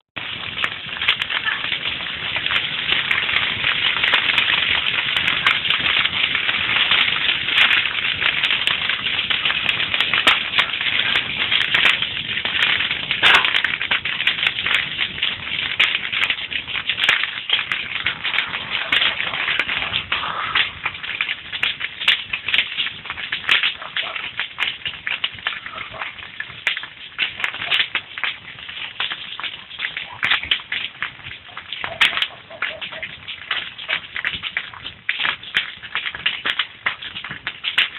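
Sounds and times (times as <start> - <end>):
campfire crackling: 0.2 - 37.9.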